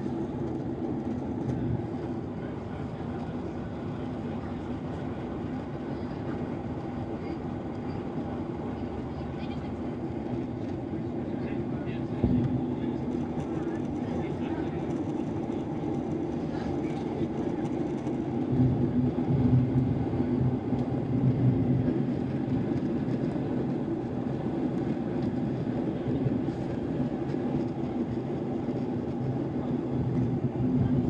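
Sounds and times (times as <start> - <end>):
jet engine drone: 0.0 - 31.0.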